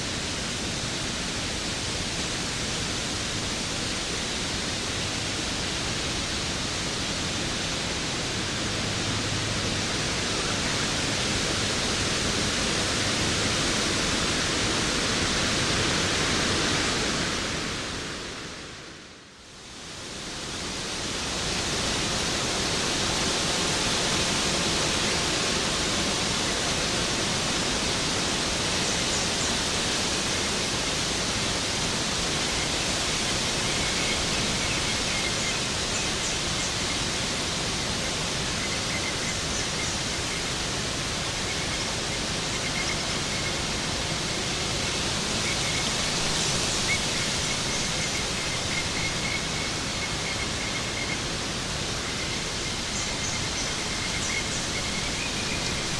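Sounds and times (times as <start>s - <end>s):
waterfall rushing: 0.0s - 18.8s, 20.1s - 55.9s.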